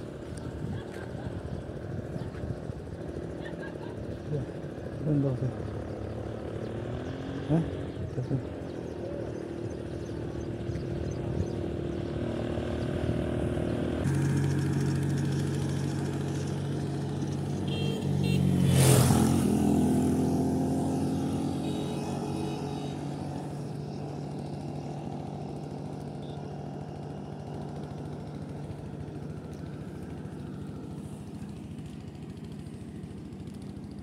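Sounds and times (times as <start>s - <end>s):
vehicle engine driving: 0.0s - 34.0s
vehicle passing by: 3.2s - 34.0s.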